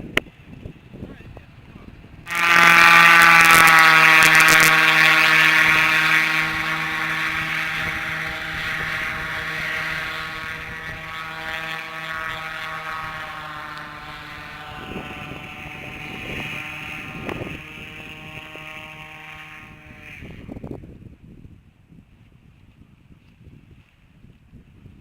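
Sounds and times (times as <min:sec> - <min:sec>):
airboat engine and propeller drone: 0:00.0 - 0:25.0.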